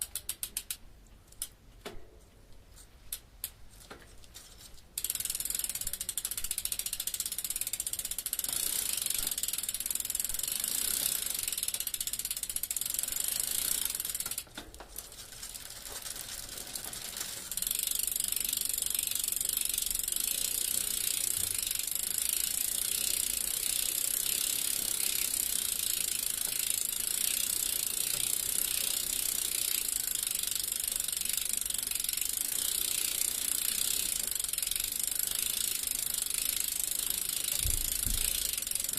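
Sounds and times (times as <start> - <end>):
bicycle freewheel ticking: 0.0 - 1.6, 4.9 - 38.9.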